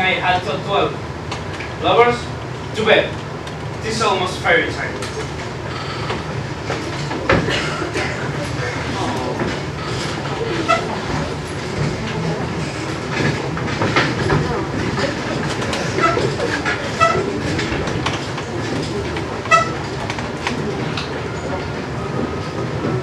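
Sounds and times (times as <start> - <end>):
audience murmuring and shuffling: 0.0 - 23.0.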